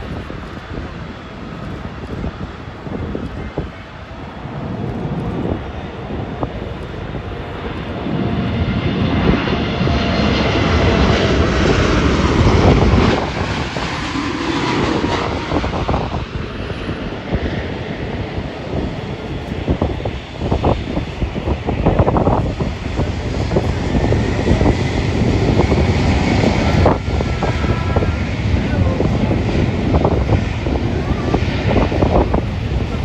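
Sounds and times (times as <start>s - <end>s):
jet airliner flying past: 0.0s - 33.0s.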